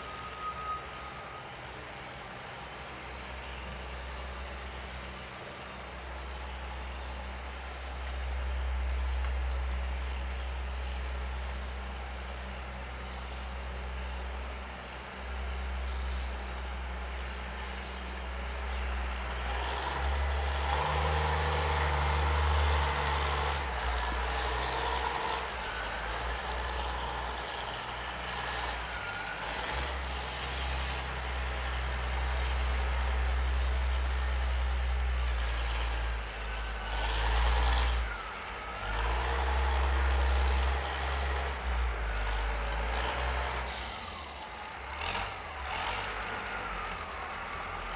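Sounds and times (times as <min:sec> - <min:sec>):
low rumble of large vehicles: 0:00.0 - 0:47.9.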